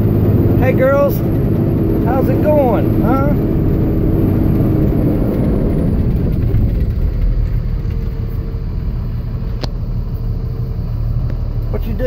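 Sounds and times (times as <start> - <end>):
pickup truck engine and road noise: 0.0 - 12.0.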